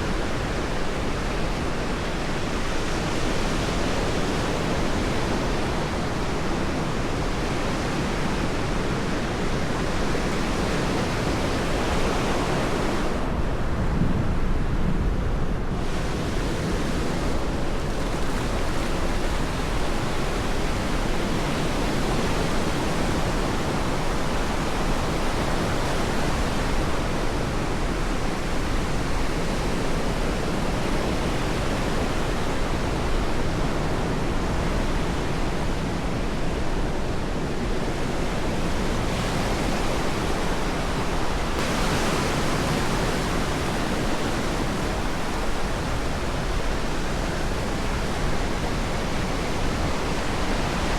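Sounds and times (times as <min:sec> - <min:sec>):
waves breaking on beach: 0:00.0 - 0:14.0, 0:15.6 - 0:50.9.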